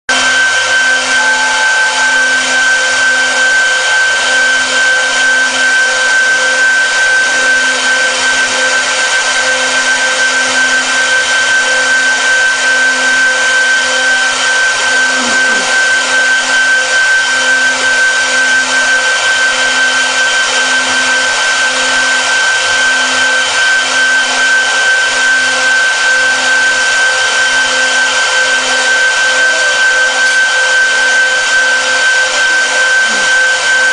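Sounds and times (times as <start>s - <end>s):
router bits cutting wood: 0.1s - 33.9s
spindle motors whining: 0.1s - 33.9s.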